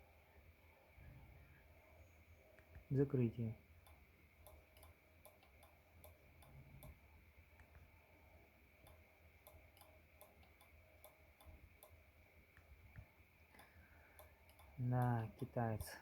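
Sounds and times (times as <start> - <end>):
faint high-pitched whine: 0.0 - 16.0
faint even ticking: 2.4 - 16.0.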